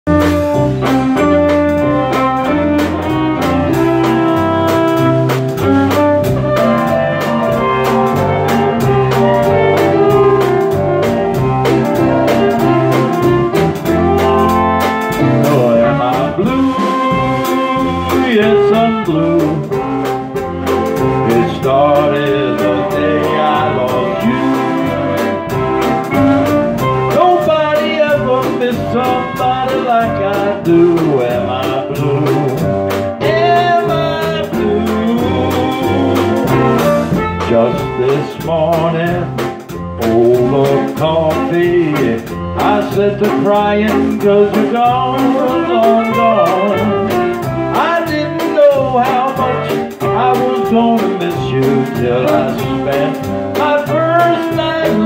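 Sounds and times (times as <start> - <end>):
live country band playing: 0.0 - 55.0
electric guitar: 0.1 - 55.0.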